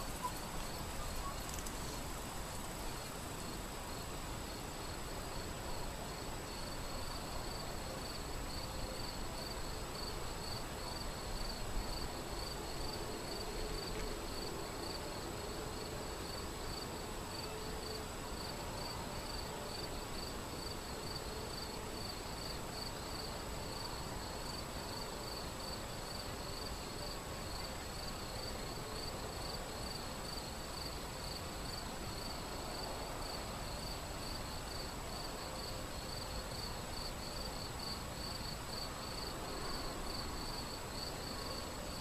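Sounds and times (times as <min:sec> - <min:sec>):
cricket chirping: 0:00.0 - 0:05.8, 0:06.5 - 0:42.0.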